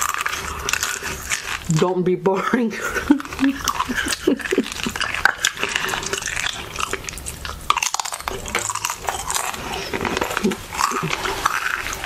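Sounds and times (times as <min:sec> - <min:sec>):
chewing with wet mouth noises: 0:00.0 - 0:01.9, 0:02.8 - 0:12.0.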